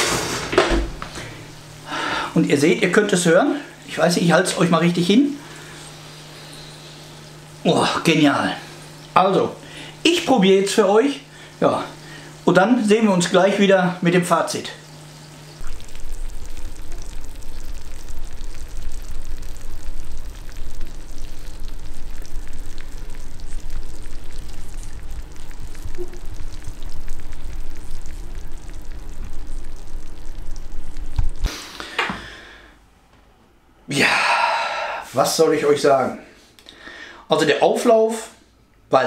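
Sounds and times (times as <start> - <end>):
casserole sizzling and crackling: 0.0 - 32.0.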